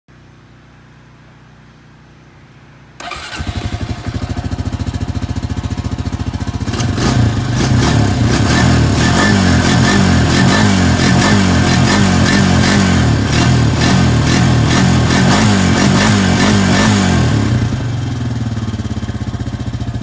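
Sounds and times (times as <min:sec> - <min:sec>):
atv engine starting and running: 0:03.0 - 0:20.0.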